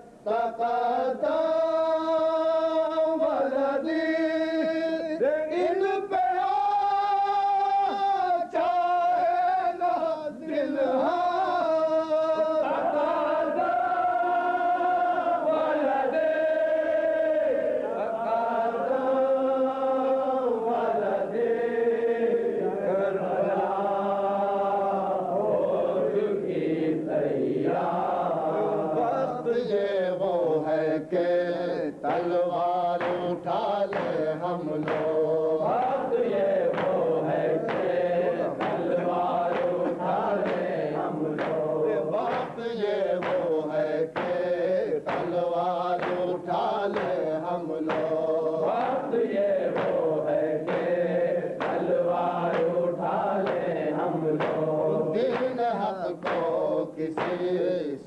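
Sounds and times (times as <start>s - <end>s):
men chanting together: 0.3s - 58.0s.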